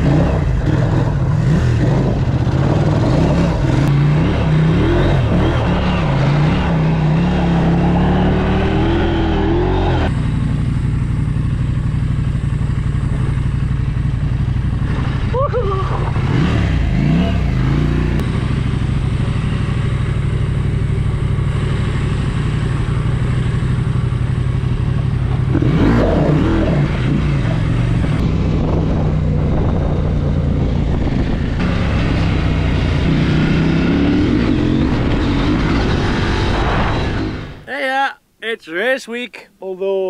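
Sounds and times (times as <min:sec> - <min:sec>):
motorcycle engine running: 0:00.0 - 0:36.4.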